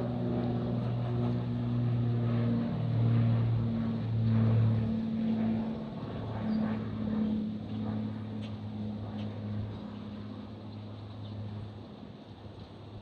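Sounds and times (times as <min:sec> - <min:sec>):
aircraft passing overhead: 0:00.0 - 0:13.0.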